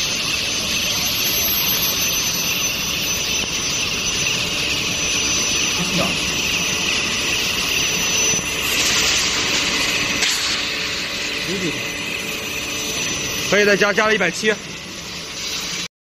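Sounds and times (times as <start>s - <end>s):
loud machine hiss: 0.0s - 15.9s
thin high steady tone: 0.0s - 15.9s.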